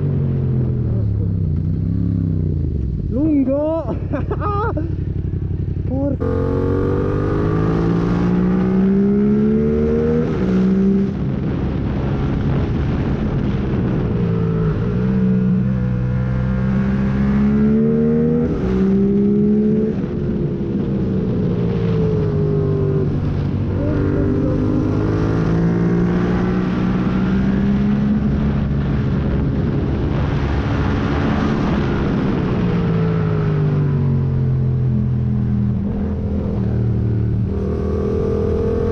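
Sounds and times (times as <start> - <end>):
motorcycle engine revving: 4.6 - 38.9.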